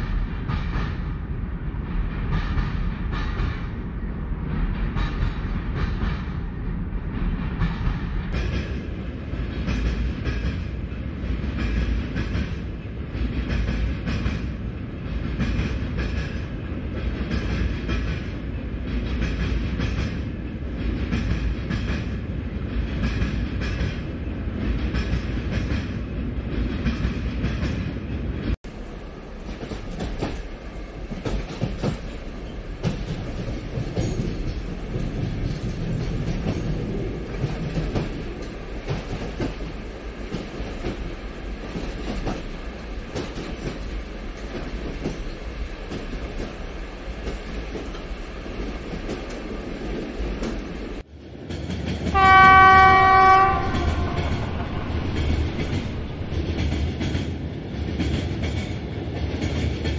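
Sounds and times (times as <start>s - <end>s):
train rumbling on rails: 0.0s - 59.9s
wheels clickety-clack: 7.1s - 28.0s, 29.4s - 52.2s, 53.5s - 59.9s.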